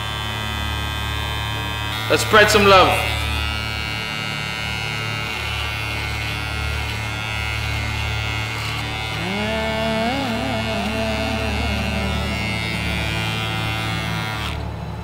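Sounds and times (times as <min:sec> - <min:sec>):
electric hair clippers buzzing: 0:00.0 - 0:15.0
background music: 0:02.0 - 0:15.0.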